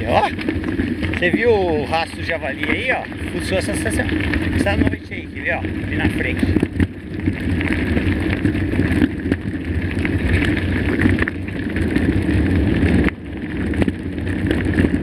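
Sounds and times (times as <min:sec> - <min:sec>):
bike tyres on rough trail: 0:00.0 - 0:15.0
wind buffeting microphone: 0:00.0 - 0:15.0.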